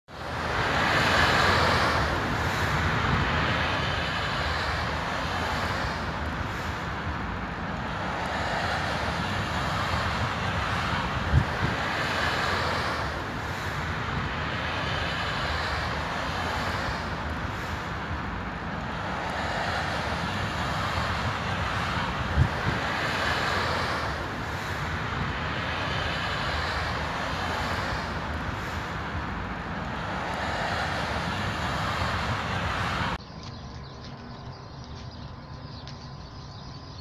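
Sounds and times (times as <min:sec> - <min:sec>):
cars passing by: 0:00.1 - 0:37.0.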